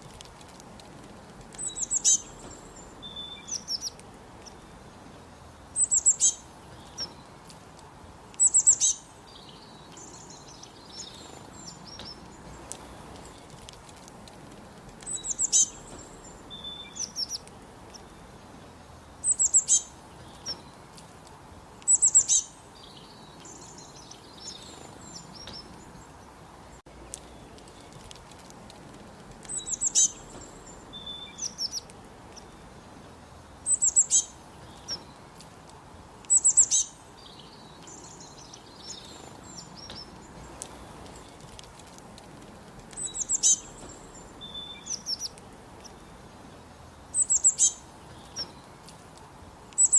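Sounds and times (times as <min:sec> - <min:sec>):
background hiss: 0:00.0 - 0:49.9.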